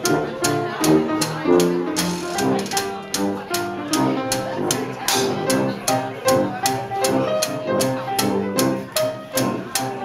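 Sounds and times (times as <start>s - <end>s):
trombone: 0.0s - 10.0s
tuba: 0.0s - 10.0s
upright piano: 0.0s - 10.0s
washboard and cymbal beat: 0.0s - 10.0s.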